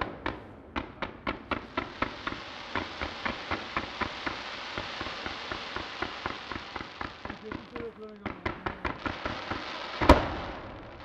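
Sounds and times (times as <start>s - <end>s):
fireworks shots volley: 0.0s - 11.0s
hiss of burning fireworks: 0.0s - 11.0s.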